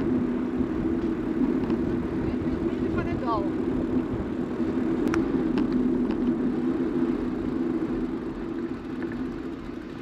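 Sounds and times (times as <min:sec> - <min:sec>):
wind rushing past microphone: 0:00.0 - 0:08.3
bicycle tyres rolling: 0:00.0 - 0:10.0.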